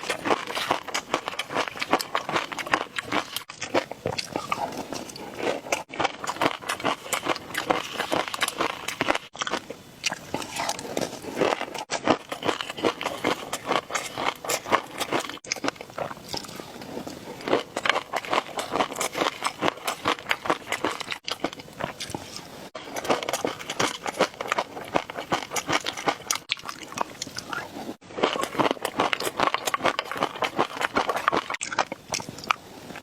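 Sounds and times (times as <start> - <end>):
biting and chewing: 0.0 - 33.0.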